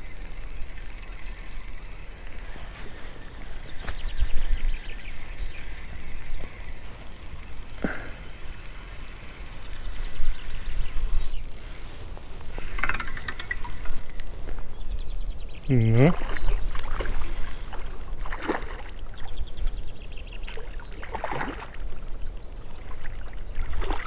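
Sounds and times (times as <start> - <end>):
fishing reel clicking: 0.0 - 15.8, 16.8 - 24.0.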